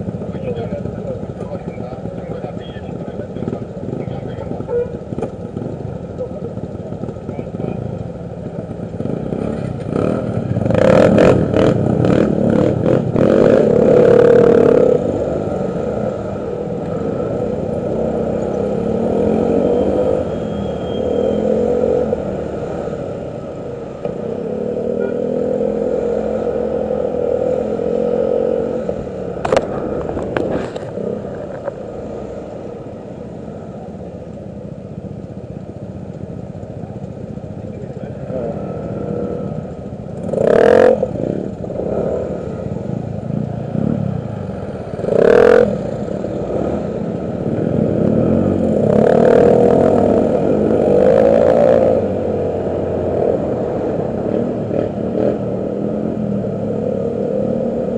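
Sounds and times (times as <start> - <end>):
motorcycle engines revving: 0.0 - 57.9.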